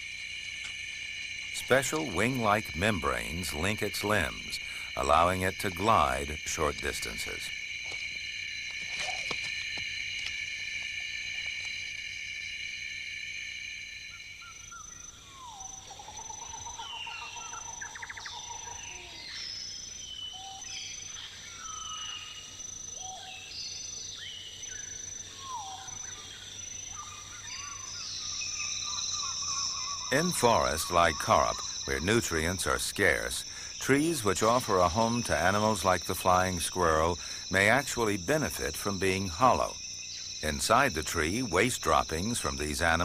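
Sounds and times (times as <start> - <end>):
shrill insect chorus: 0.0 - 43.0.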